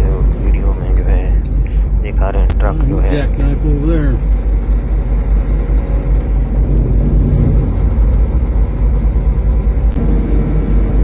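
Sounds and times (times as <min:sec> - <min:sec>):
vehicle rumble from inside cab: 0:00.0 - 0:11.0.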